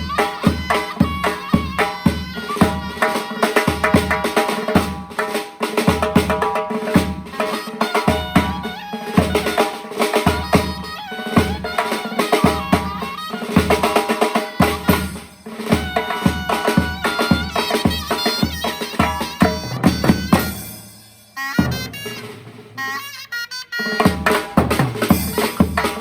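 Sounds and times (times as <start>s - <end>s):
drum beats: 0.0s - 26.0s
shawm playing a melody: 0.0s - 26.0s.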